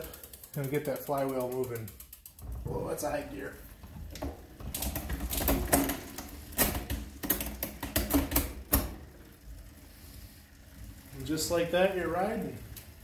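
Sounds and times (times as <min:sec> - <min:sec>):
bicycle chain clicking and ratcheting: 0:00.0 - 0:13.0
low hum of tyre on roller: 0:02.6 - 0:13.0.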